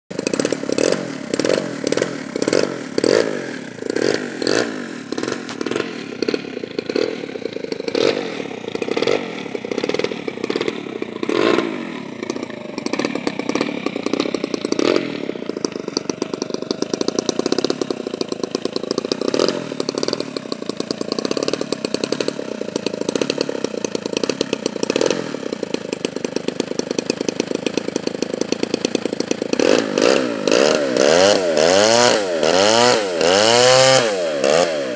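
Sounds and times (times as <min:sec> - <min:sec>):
model airplane engine revving: 0:00.1 - 0:34.9.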